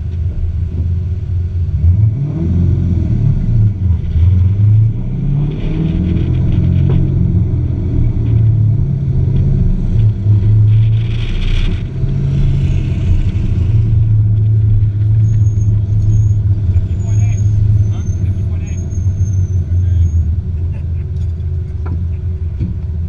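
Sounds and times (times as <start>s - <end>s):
car engine running: 0.0s - 23.0s
road and wind noise: 0.0s - 23.0s.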